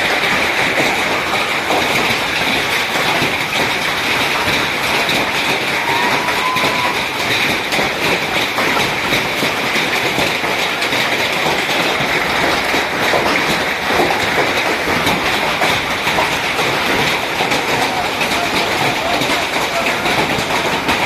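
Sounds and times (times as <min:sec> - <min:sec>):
hail and heavy rain clattering: 0:00.0 - 0:21.0.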